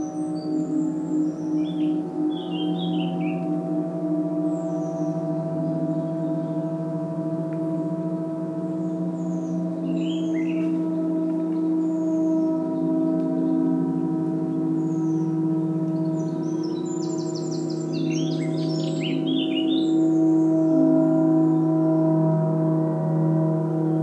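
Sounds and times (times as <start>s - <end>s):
birds chirping: 0.0s - 22.2s
gong ringing: 0.0s - 24.0s.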